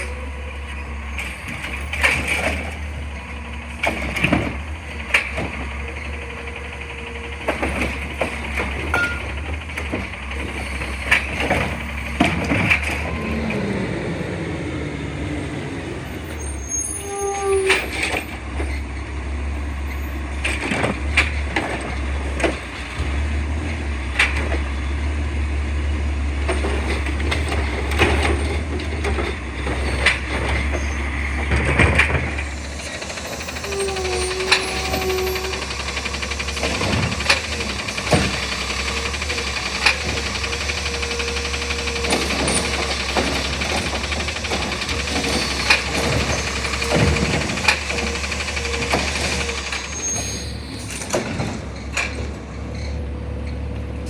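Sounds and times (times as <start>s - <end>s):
garbage truck engine running: 0.0s - 54.0s.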